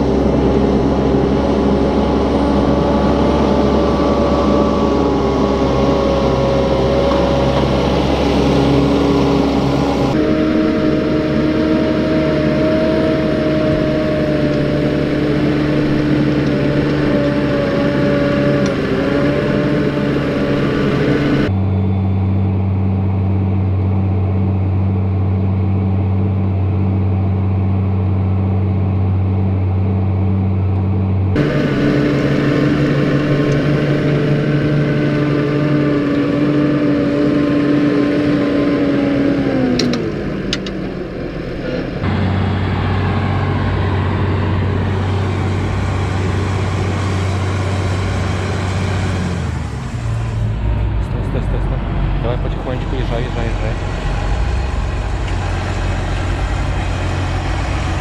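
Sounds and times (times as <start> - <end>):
tractor engine droning: 0.0 - 58.0.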